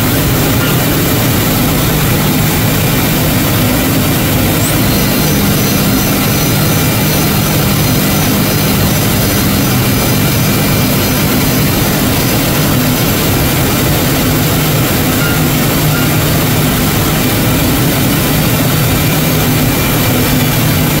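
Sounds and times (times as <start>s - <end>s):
dust extraction rushing: 0.0s - 21.0s
faint high whine: 0.0s - 21.0s
low hum: 0.0s - 21.0s.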